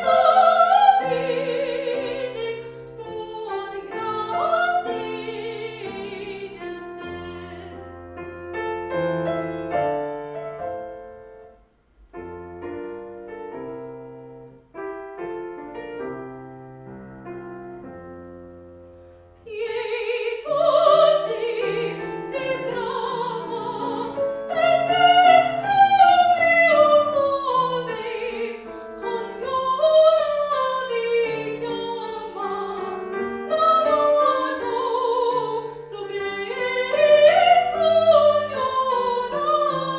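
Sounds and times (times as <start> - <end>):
piano playing: 0.0 - 39.9.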